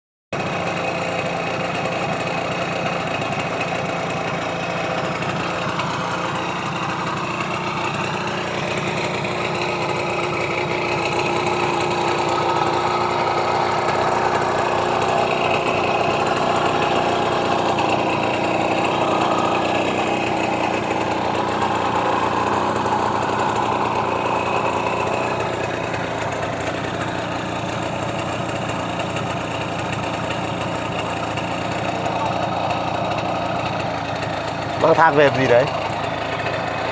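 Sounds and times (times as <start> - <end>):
moped engine running: 0.4 - 36.9.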